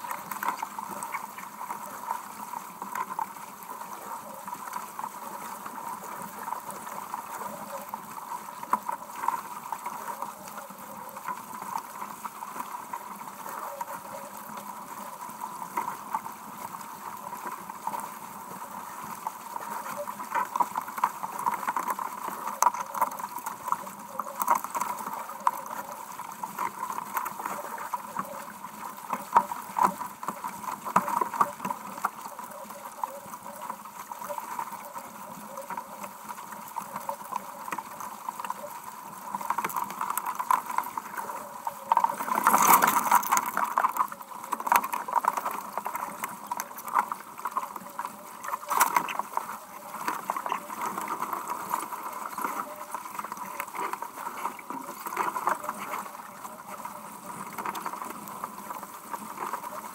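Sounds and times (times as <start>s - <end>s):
water rushing along hull: 0.0s - 59.9s.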